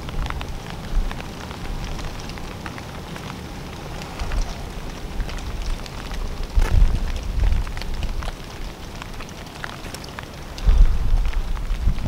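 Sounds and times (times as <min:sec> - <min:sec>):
steady low rumble: 0:00.0 - 0:12.0
water drops pattering on leaves: 0:00.0 - 0:12.0.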